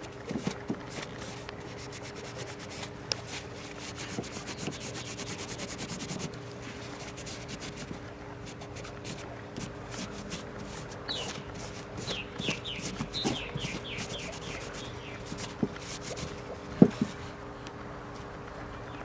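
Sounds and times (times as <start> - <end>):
paper towel scrubbing metal: 0.0 - 17.2.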